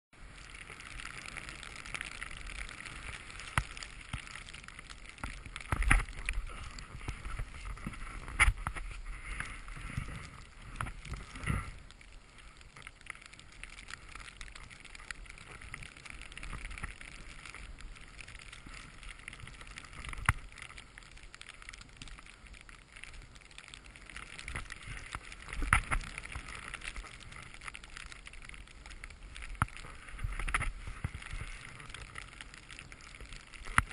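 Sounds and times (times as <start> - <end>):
boards hissing through powder snow: 0.2 - 33.9.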